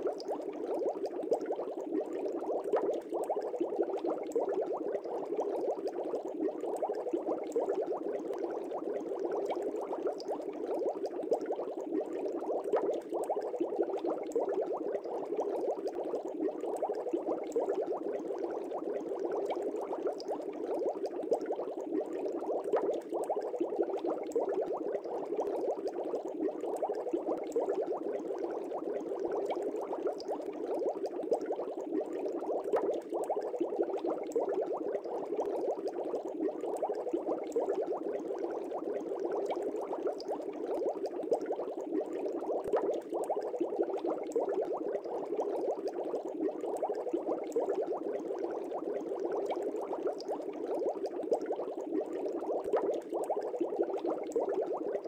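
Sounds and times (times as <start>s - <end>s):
aquarium water bubbling: 0.0s - 55.0s.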